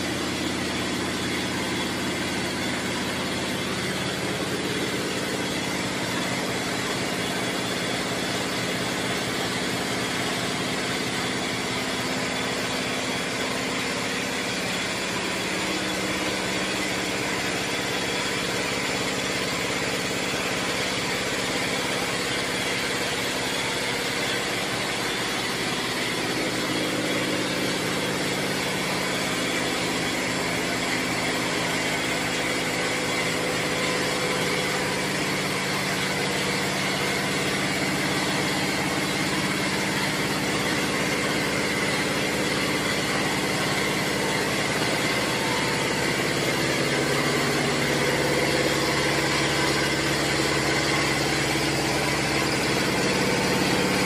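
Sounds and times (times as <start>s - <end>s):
boiler room machinery hum: 0.0s - 54.0s
steady machine tones: 0.0s - 54.0s.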